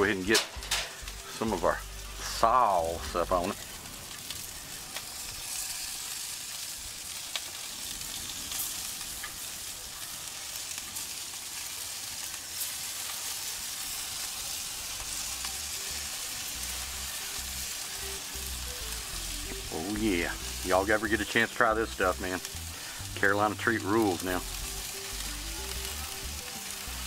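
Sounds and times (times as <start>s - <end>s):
chicken sizzling on a grill: 0.0s - 27.0s.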